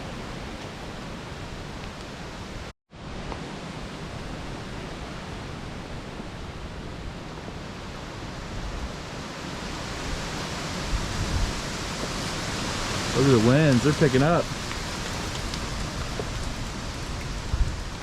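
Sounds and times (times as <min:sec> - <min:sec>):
wind blowing through woods: 0:00.0 - 0:18.0.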